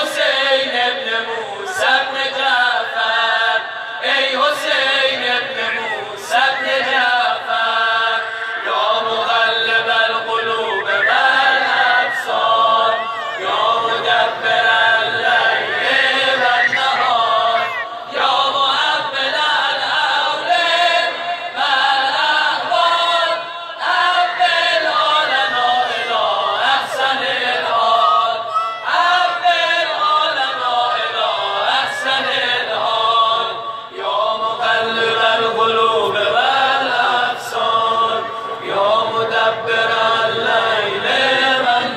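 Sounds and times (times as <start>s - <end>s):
religious chanting over loudspeakers: 0.0s - 41.9s.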